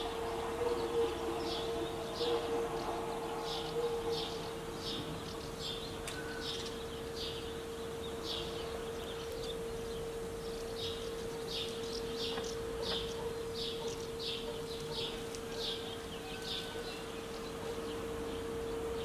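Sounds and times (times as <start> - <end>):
faint steady hum: 0.0 - 19.0
bird chirping: 0.3 - 19.0.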